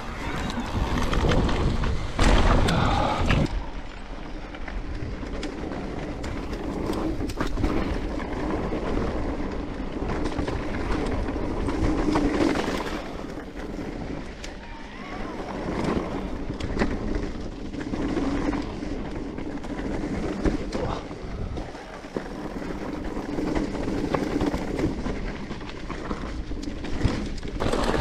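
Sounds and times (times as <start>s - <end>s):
bike rattling: 0.0s - 28.0s
bike tyres on dirt: 0.0s - 28.0s.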